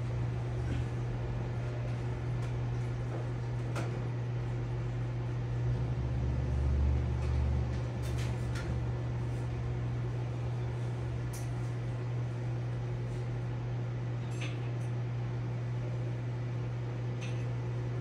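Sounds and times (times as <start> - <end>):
aquarium pump humming: 0.0 - 18.0.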